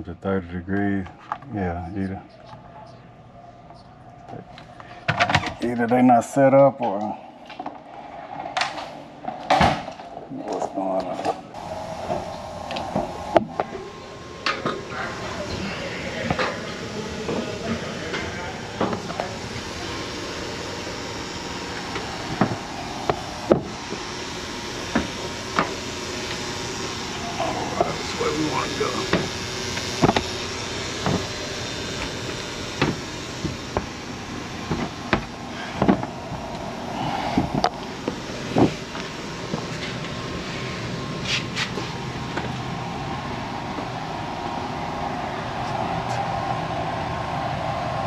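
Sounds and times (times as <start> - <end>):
air handling equipment humming: 0.0 - 48.0.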